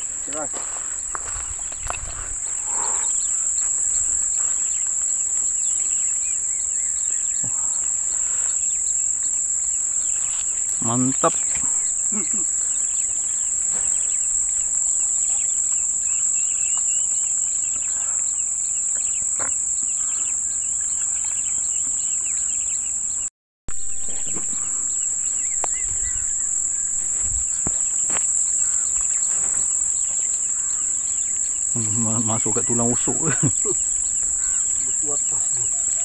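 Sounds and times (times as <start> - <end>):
high-pitched insect chorus: 0.0 - 36.0
rapid short insect chirps: 0.0 - 36.0.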